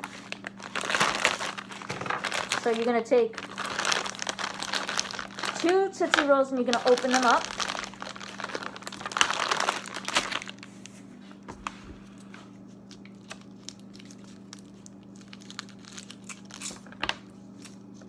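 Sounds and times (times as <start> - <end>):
candy wrappers crinkling: 0.0 - 10.9, 12.9 - 18.0.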